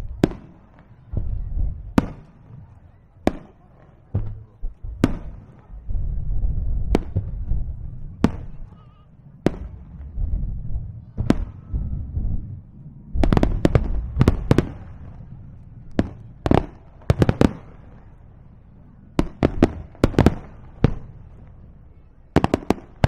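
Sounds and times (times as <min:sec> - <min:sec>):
fireworks cracking: 0:00.0 - 0:23.0
low rumble of booms: 0:00.0 - 0:23.0.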